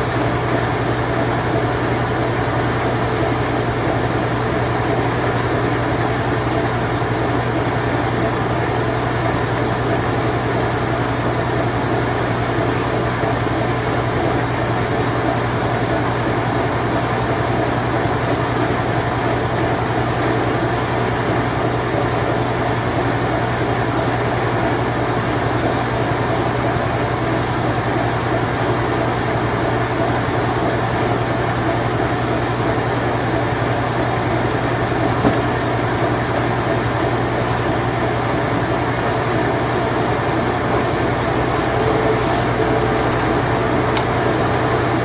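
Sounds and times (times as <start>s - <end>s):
washing machine spinning: 0.0s - 45.0s.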